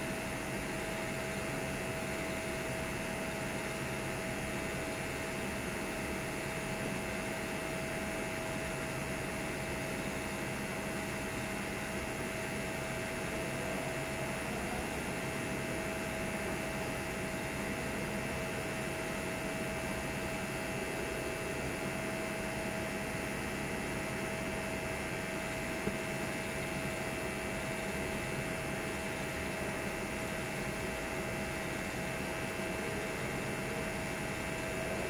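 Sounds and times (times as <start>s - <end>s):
thin steady whine: 0.0s - 35.0s.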